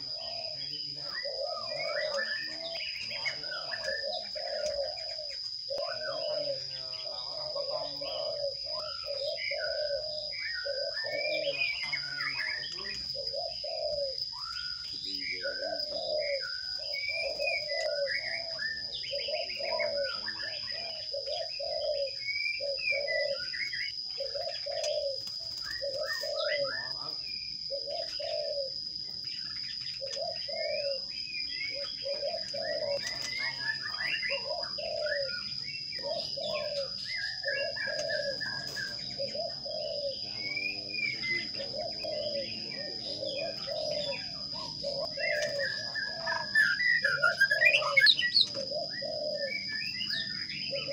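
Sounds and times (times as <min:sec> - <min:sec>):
dove-like cooing: 0:00.0 - 0:50.9
high bird chirps: 0:00.0 - 0:50.9.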